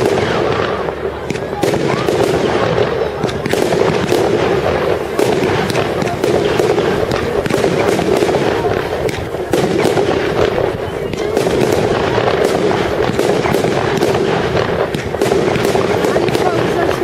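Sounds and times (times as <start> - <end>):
fireworks cracking and banging: 0.0 - 17.0.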